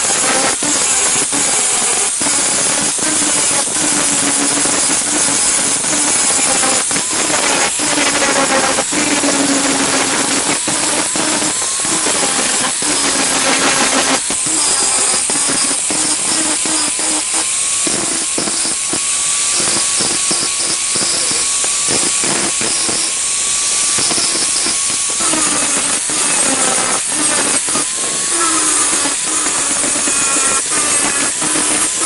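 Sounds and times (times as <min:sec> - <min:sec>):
grinding on metal: 0:00.0 - 0:32.0
power tool motor whine: 0:00.0 - 0:32.0.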